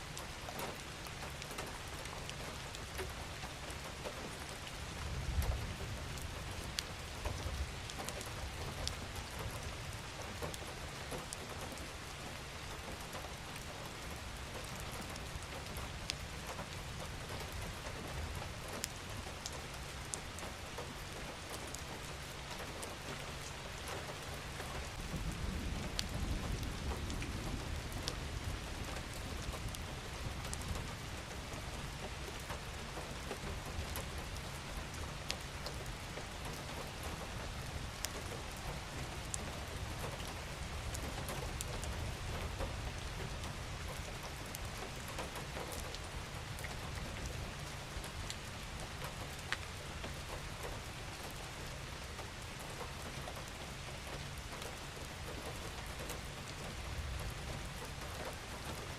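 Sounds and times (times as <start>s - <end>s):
steady rain falling: 0.0s - 58.9s
raindrops ticking: 0.1s - 58.9s.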